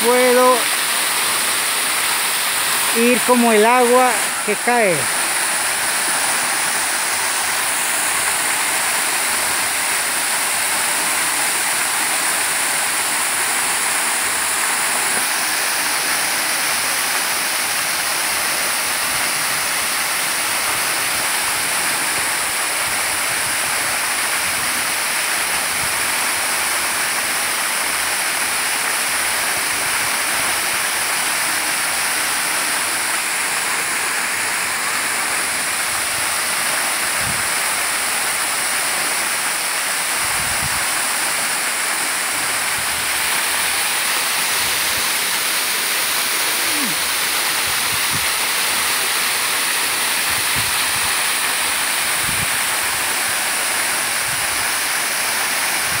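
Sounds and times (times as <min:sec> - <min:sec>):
waterfall splashing into pool: 0:00.0 - 0:56.0.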